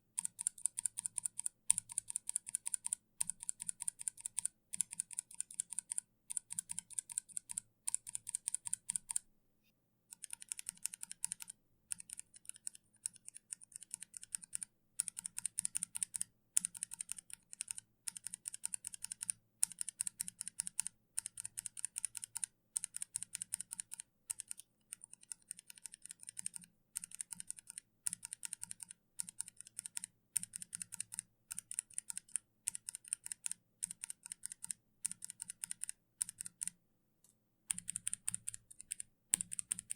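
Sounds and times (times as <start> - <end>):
mechanical keyboard typing: 0.2 - 9.2, 10.1 - 36.8, 37.7 - 39.9.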